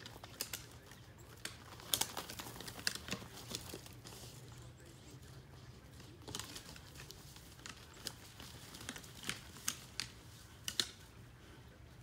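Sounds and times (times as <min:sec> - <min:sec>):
deer antlers clacking: 0:00.0 - 0:04.5, 0:05.9 - 0:11.4.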